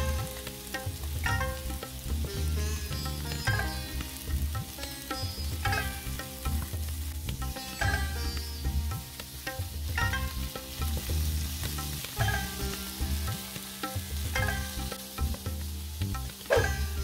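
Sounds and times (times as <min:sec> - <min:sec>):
background music: 0:00.0 - 0:17.0
fish sizzling in a pan: 0:00.0 - 0:17.0.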